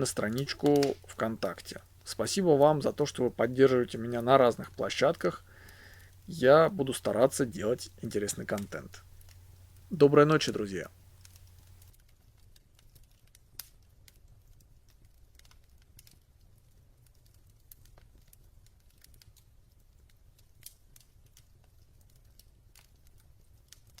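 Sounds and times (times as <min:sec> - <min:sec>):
faint clicks and crackles: 0:00.0 - 0:24.0.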